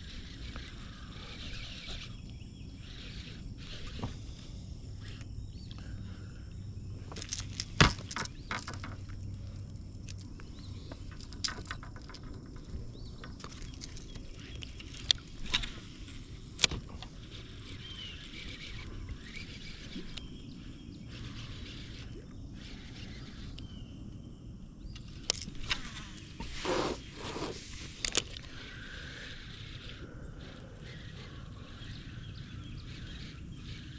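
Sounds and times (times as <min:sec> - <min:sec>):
outdoor background noise: 0:00.0 - 0:33.9.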